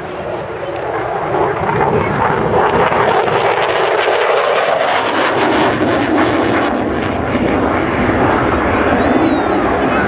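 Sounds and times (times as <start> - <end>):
jet engine roaring and crackling: 0.0 - 10.0.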